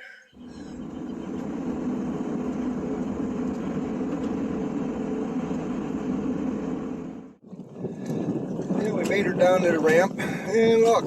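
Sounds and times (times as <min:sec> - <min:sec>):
vehicle engine and road noise: 0:00.4 - 0:10.1.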